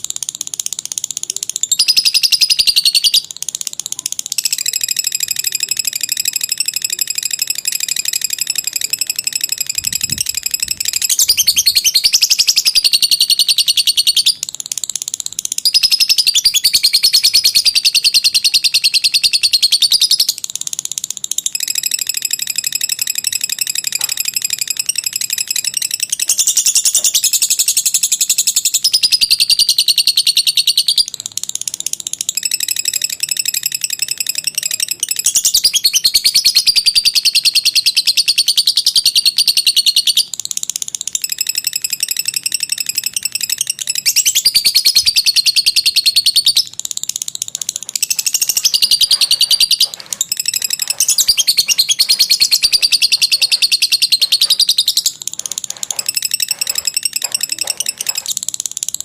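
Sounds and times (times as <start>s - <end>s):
lovebird chattering trill: 0.0s - 59.0s.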